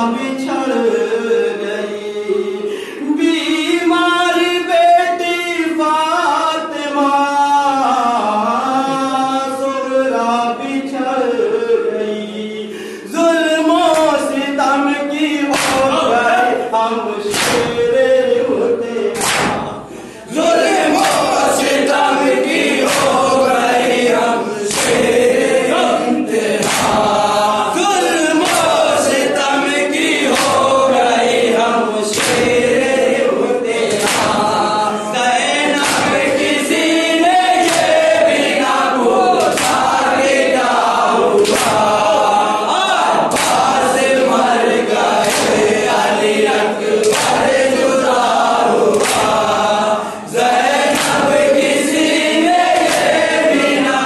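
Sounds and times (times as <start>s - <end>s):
men chanting a lament: 0.0s - 54.0s.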